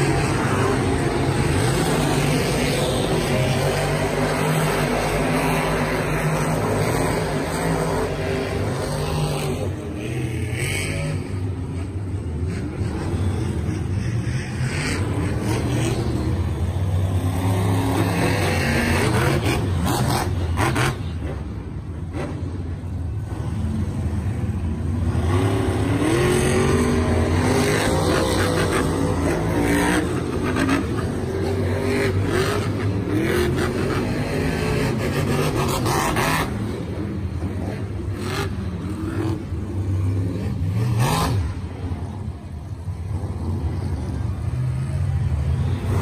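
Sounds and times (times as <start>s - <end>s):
monster truck engines revving: 0.0s - 46.0s.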